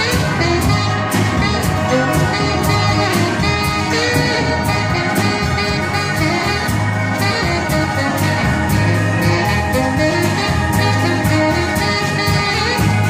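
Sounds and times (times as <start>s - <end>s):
drum kit: 0.0s - 13.0s
saxophone and horn playing: 0.0s - 13.0s.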